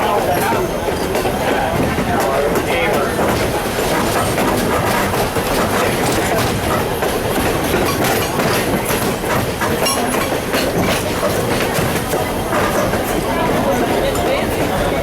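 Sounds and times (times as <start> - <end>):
railroad cars rumbling: 0.0 - 15.0
wheels clicking over rail joints: 0.2 - 15.0.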